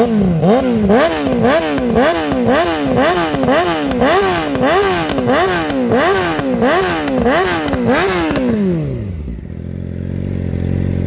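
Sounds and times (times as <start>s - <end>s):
exhaust crackle: 0.0s - 11.0s
motorcycle engine revving and idling: 0.0s - 11.0s.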